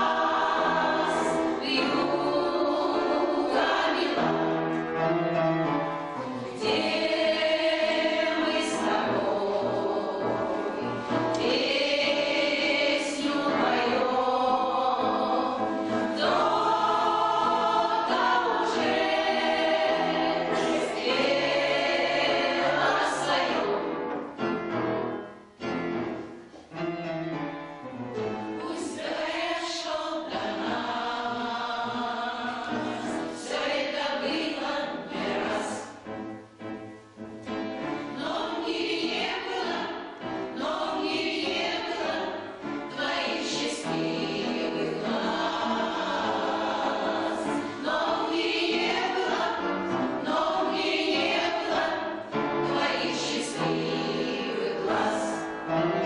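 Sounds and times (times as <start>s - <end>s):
choir singing: 0.0s - 26.3s, 28.5s - 56.0s.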